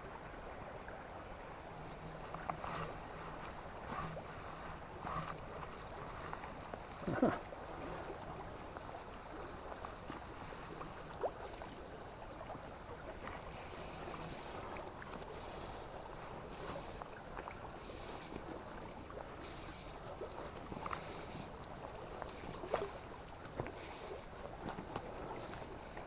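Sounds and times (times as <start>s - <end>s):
river water running: 0.0s - 26.0s.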